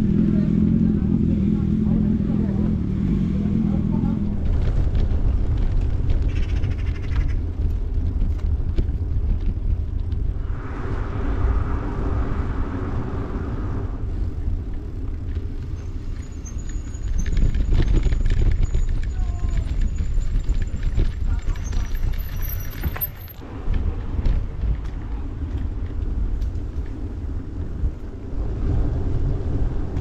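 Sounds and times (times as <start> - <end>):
wind buffeting microphone: 0.0 - 30.0
bicycle tyres on gravel: 4.3 - 30.0.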